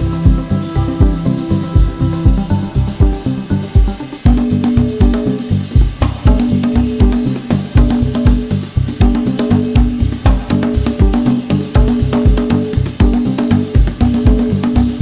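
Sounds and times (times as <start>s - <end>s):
music with driving drum beat and bass: 0.0s - 15.0s.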